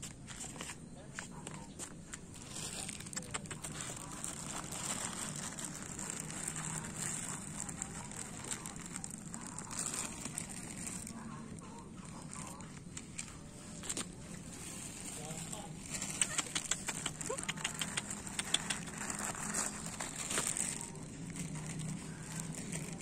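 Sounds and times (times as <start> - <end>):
kibble crackling on asphalt: 0.0 - 23.0
plastic bag crinkling: 1.4 - 23.0.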